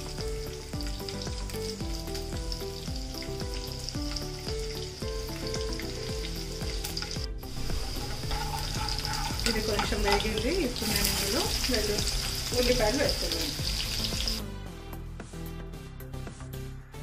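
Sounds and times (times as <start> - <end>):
spices sizzling in hot oil: 0.0 - 14.4
soft instrumental tune: 0.0 - 16.3.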